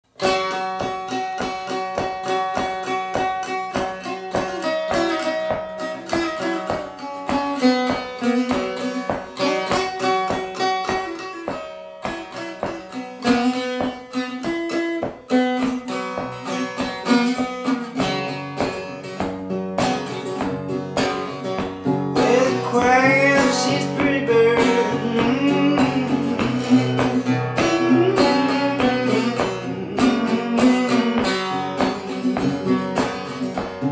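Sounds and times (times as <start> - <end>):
fingerpicked acoustic guitar: 0.0 - 33.9.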